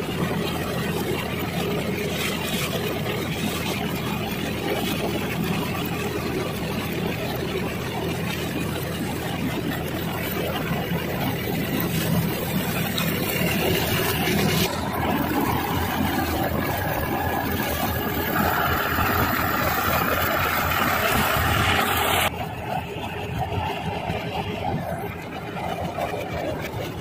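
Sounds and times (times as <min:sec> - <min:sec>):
combine harvester droning: 0:00.0 - 0:27.0
high-pitched whine: 0:00.0 - 0:27.0.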